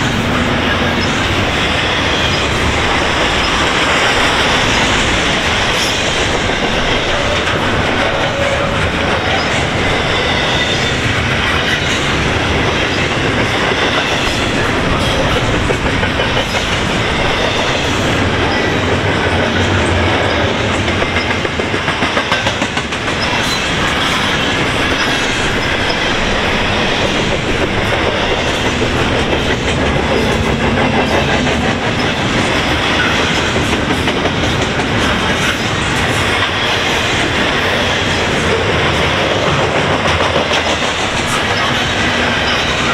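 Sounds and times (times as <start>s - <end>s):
freight train wheels clattering: 0.0s - 42.9s.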